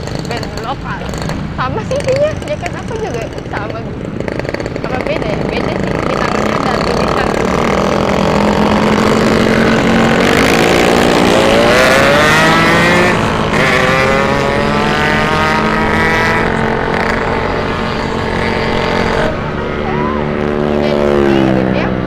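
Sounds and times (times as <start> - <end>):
motorcycle engines accelerating: 0.0 - 22.0.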